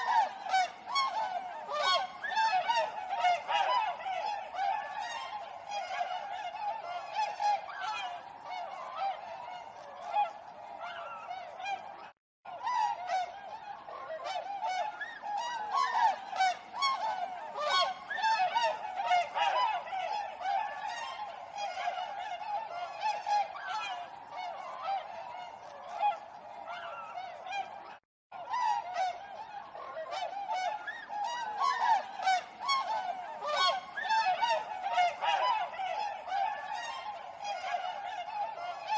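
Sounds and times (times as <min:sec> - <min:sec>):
swans honking: 0:00.0 - 0:38.9.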